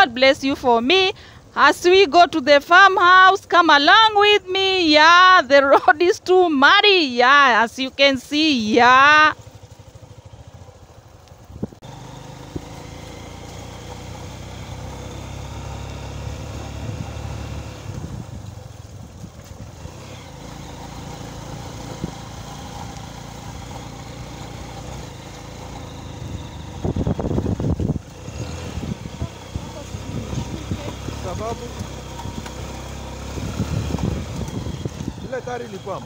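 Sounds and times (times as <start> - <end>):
motorcycle engine rumbling: 0.0 - 36.0.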